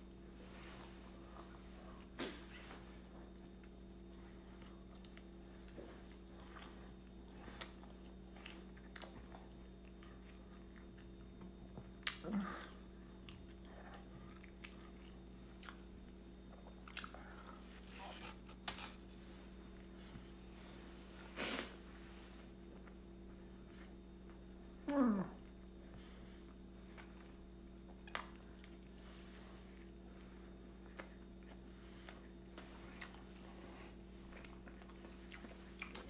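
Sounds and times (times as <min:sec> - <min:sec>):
low steady hum: 0:00.0 - 0:36.0
faint chewing and biting: 0:00.5 - 0:20.8, 0:25.4 - 0:36.0.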